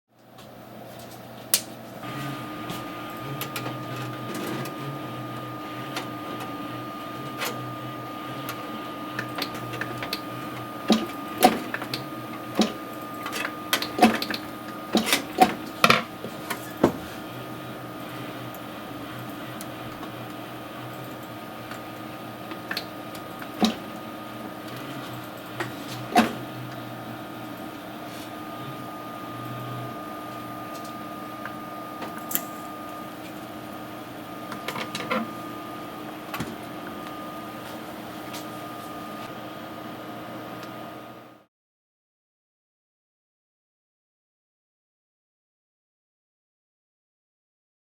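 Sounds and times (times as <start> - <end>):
power supply humming: 0.6 - 41.4.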